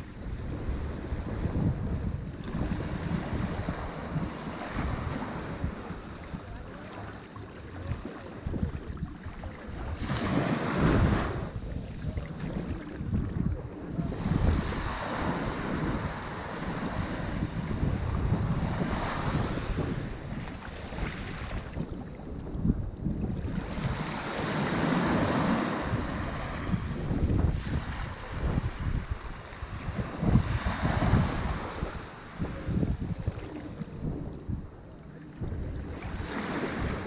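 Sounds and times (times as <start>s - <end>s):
ocean waves breaking: 0.0s - 37.0s
wind buffeting microphone: 0.0s - 37.0s.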